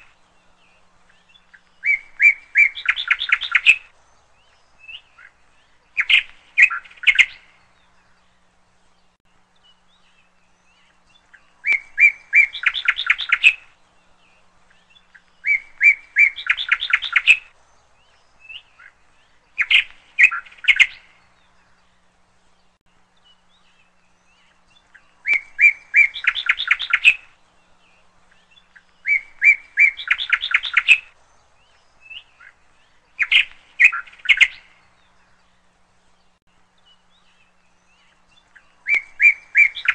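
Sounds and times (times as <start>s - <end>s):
small bird chirping in trills: 0.0s - 39.9s.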